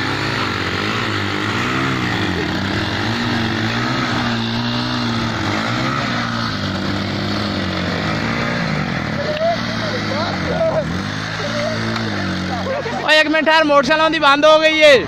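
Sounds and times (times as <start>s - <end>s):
motorcycle engines revving high: 0.0s - 15.0s.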